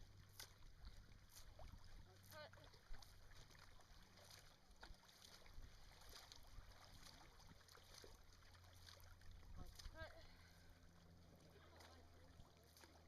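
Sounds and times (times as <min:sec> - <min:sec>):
paddles splashing in water: 0:00.0 - 0:13.0.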